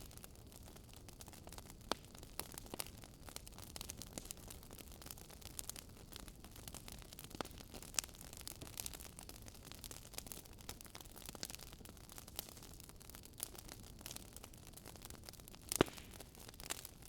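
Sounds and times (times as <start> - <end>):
soft steady hiss: 0.0 - 17.0
wood fire crackling: 0.0 - 17.0.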